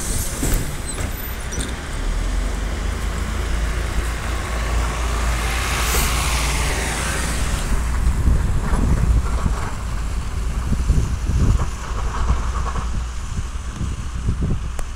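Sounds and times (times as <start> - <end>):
bus diesel engine pulling away: 0.0 - 14.6.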